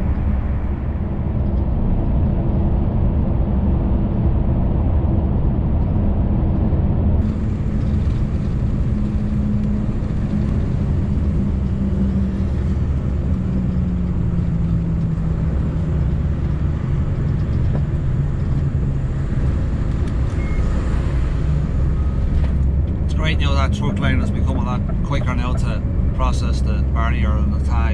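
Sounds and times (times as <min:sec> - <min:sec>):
truck engine droning: 0:00.0 - 0:27.9.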